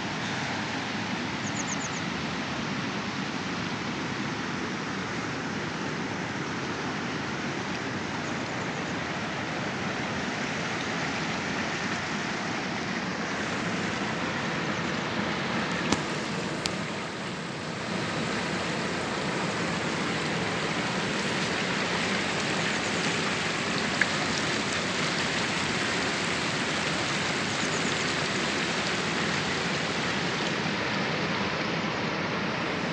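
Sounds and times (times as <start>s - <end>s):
river flowing over rocks: 0.0s - 32.9s.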